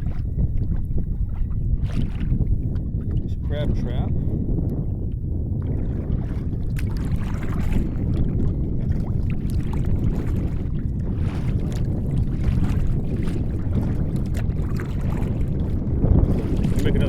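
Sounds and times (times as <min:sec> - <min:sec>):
water lapping against a kayak: 0:00.0 - 0:17.0
wind rumble on microphone: 0:00.0 - 0:17.0.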